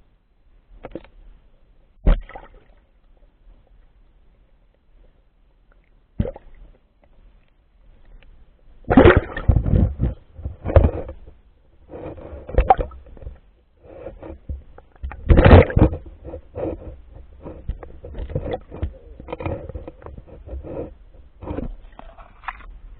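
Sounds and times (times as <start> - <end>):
water splashing and sloshing: 2.0 - 3.9, 5.7 - 22.9.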